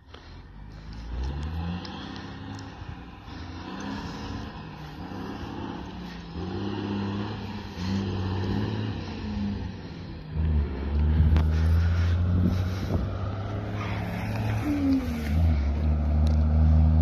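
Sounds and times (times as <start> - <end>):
truck engine working hard: 0.0 - 17.0.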